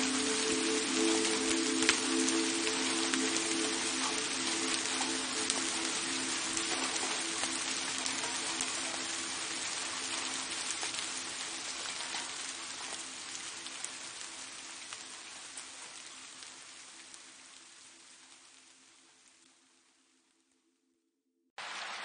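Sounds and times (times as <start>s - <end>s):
rain falling: 0.0s - 20.5s, 21.6s - 22.0s.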